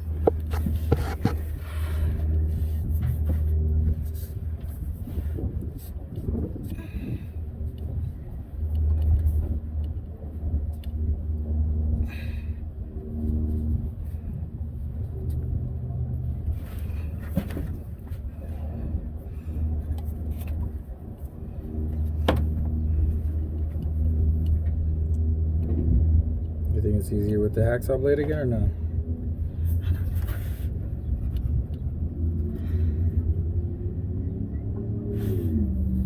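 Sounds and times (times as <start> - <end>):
low uneven rumble: 0.0 - 36.0.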